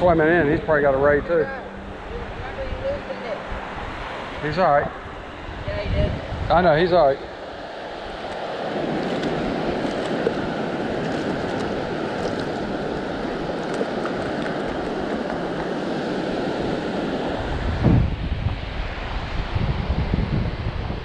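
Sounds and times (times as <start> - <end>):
ocean surf breaking: 0.0 - 20.8
wind buffeting microphone: 0.0 - 21.0.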